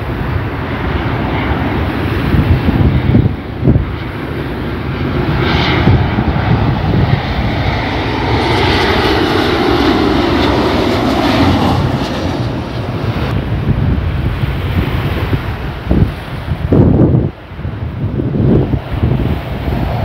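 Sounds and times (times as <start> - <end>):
jet engine rumble and whine: 0.0 - 20.0.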